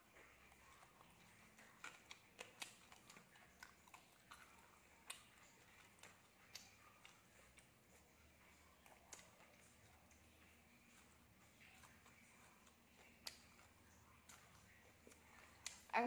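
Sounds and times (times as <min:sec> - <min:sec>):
crispy food chewing: 0:00.0 - 0:16.0.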